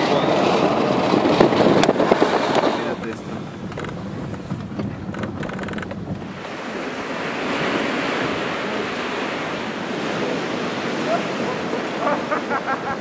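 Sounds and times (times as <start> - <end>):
surf breaking on rocky shore: 0.0 - 13.0
wind on microphone: 0.0 - 13.0.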